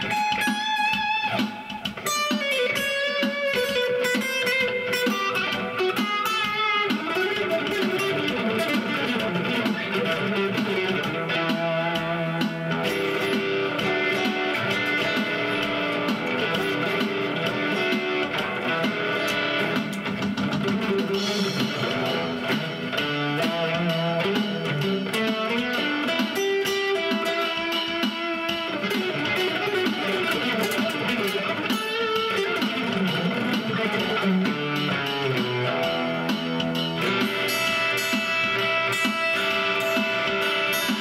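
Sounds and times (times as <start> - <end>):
acoustic guitar melody: 0.0 - 41.0.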